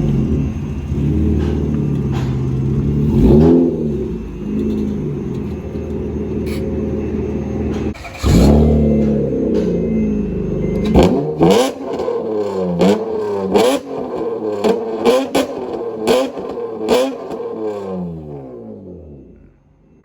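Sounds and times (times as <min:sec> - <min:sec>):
loud car engine exhaust: 0:00.0 - 0:20.0.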